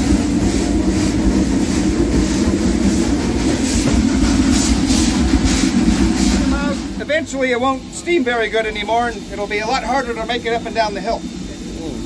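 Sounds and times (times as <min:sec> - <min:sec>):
steam locomotive hissing and rumbling: 0:00.0 - 0:12.0.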